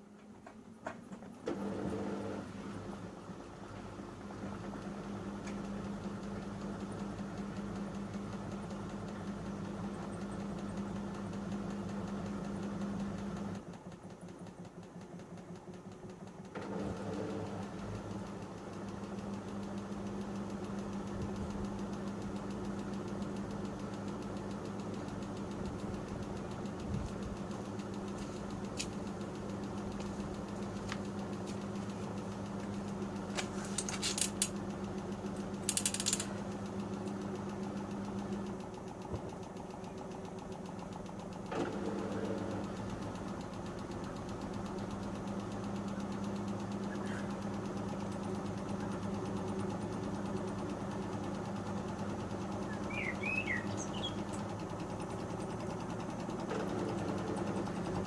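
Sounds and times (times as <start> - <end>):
motor hum: 0.0 - 58.0.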